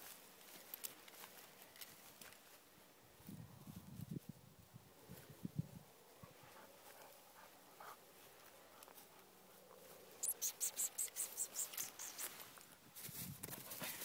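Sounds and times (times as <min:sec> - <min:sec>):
footsteps through long grass: 0:00.0 - 0:10.2, 0:11.0 - 0:14.0.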